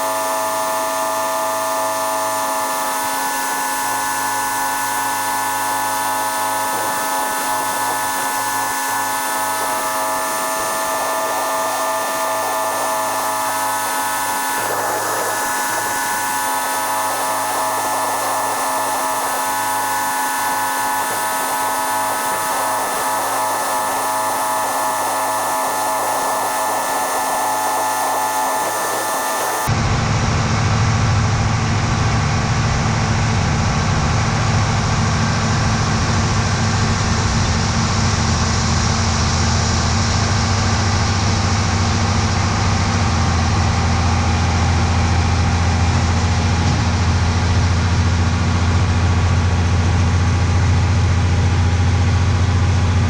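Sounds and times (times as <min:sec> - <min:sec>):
diesel engine humming: 0:00.0 - 0:53.0
high whine: 0:00.0 - 0:53.0.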